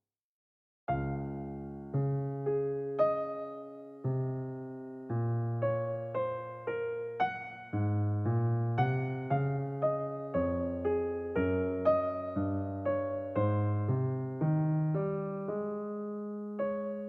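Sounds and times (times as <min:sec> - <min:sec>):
gentle solo piano: 0:00.9 - 0:17.0.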